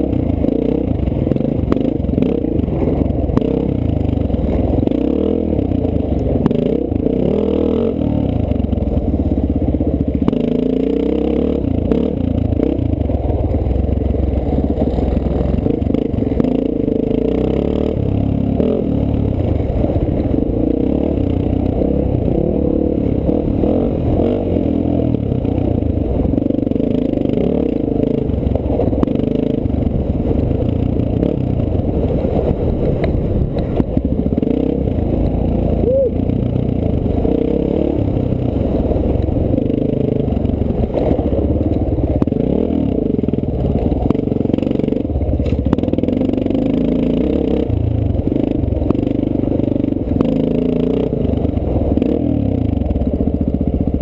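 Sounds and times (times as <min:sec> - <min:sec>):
dirt bike engine revving: 0:00.0 - 0:09.1, 0:10.1 - 0:12.9, 0:14.4 - 0:33.0, 0:33.8 - 0:52.8.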